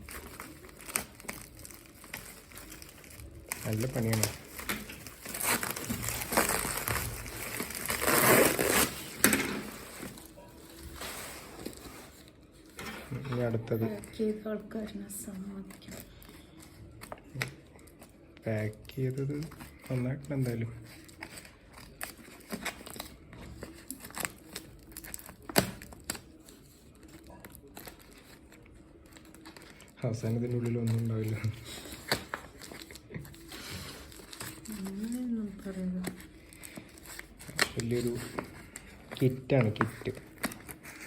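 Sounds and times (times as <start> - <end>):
packaging crumpled and torn: 0.0 - 12.8, 15.7 - 41.0.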